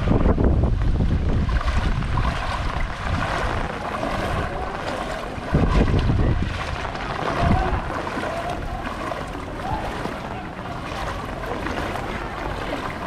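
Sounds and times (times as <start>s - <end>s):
water sloshing from wading: 0.0s - 13.0s
wind buffeting microphone: 0.0s - 13.0s.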